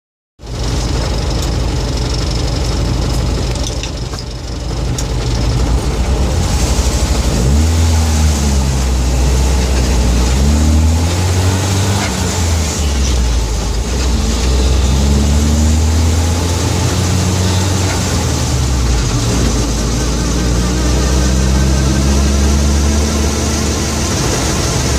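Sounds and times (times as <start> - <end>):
car engine running: 0.4 - 24.9
deep rising and falling drone: 4.6 - 24.9.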